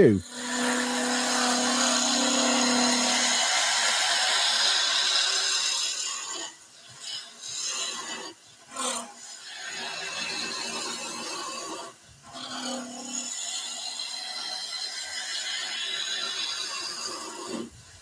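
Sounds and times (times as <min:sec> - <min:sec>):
chisel cutting spinning wood: 0:00.0 - 0:17.7.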